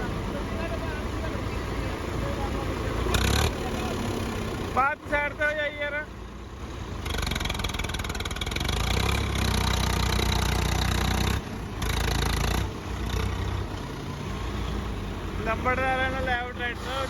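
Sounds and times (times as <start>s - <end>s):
tractor engine under heavy load: 0.0s - 17.0s.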